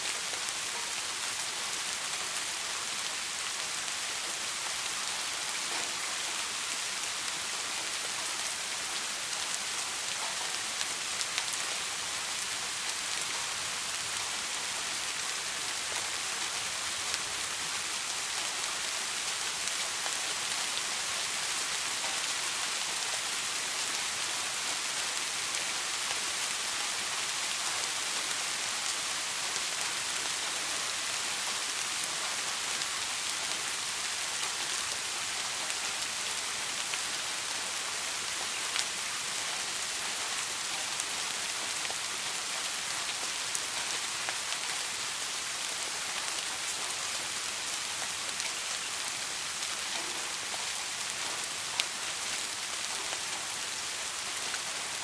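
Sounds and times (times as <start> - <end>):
rain drops ticking: 0.0 - 55.0
soft rain falling: 0.0 - 55.0.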